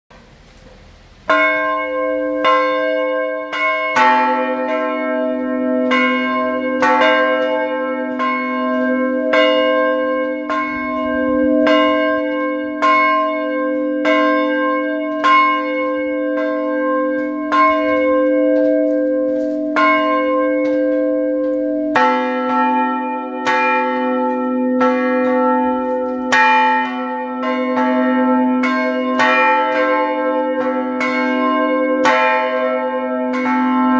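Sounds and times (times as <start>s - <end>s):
large bells ringing: 1.2s - 33.9s
lower-pitched bell ringing: 1.3s - 33.9s.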